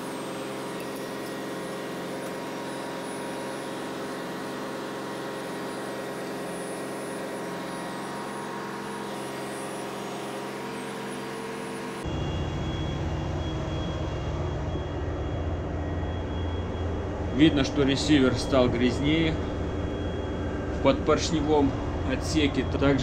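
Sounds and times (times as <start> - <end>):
engine-room machinery hum: 0.0 - 23.0
machine whines: 0.0 - 23.0.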